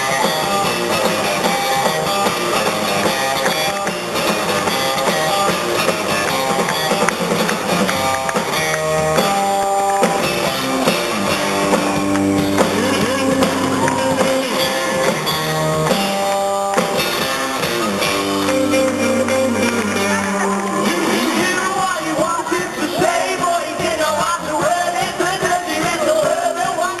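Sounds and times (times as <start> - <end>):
drum kit: 0.0 - 27.0
strummed electric guitars: 0.0 - 27.0.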